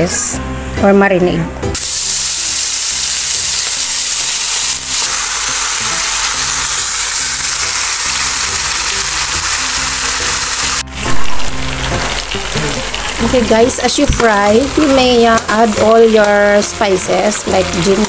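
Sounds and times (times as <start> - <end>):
chicken sizzling in oil: 1.8 - 18.0.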